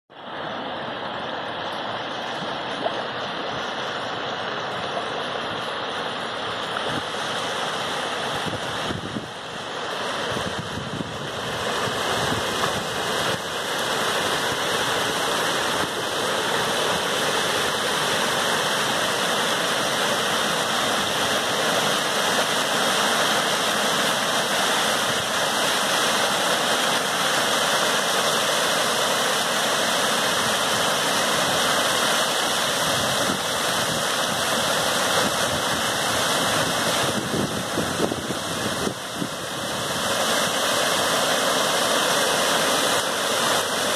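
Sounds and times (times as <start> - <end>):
fountain jets splashing into pool: 0.5 - 43.9.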